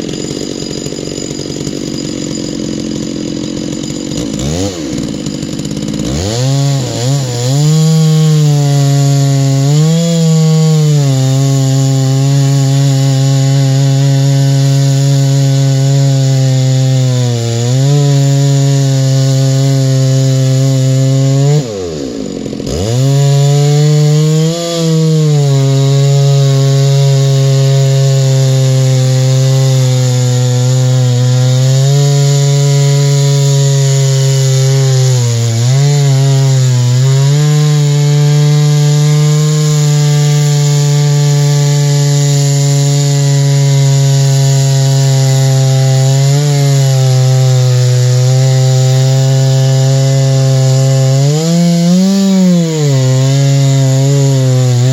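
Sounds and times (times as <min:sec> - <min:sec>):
chainsaw mill cutting log: 0:00.0 - 0:54.9.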